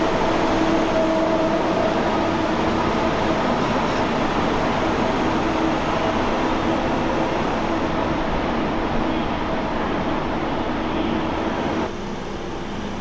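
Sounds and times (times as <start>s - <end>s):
standing trains humming: 0.0s - 13.0s.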